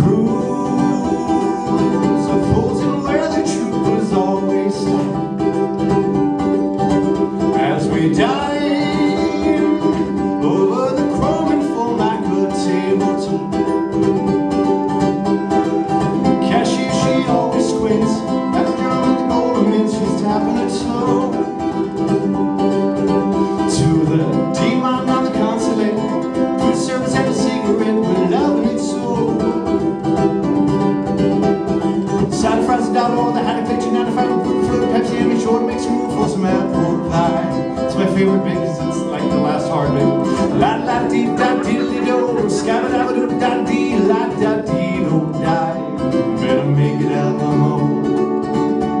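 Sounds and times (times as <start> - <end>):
acoustic guitar strumming: 0.0 - 49.0
man singing folk song: 0.0 - 49.0.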